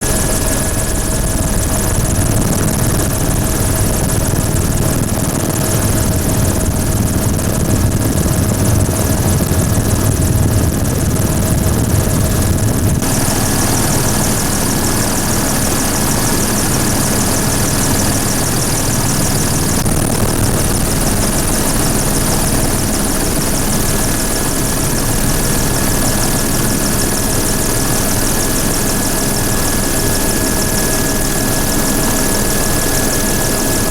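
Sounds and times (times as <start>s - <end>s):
helicopter turbine and rotor drone: 0.0s - 33.9s.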